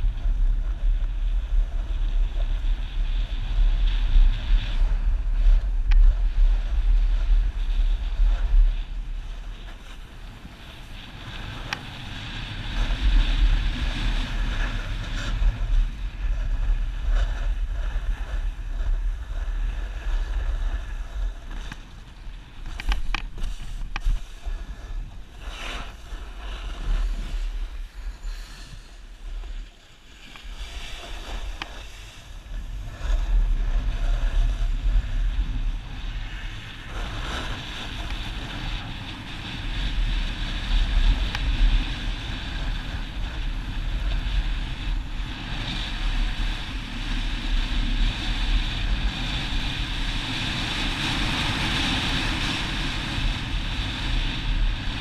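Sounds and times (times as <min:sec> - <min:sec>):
snowboard scraping over snow: 0:00.0 - 0:55.0
wind buffeting microphone: 0:00.0 - 0:55.0.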